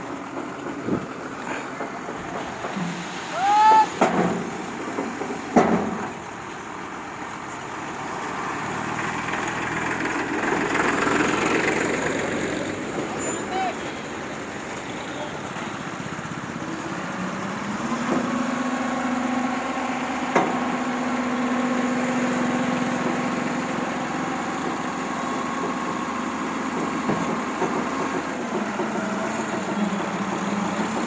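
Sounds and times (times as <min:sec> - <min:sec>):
construction machine engine running: 0:00.0 - 0:03.3, 0:03.9 - 0:31.0.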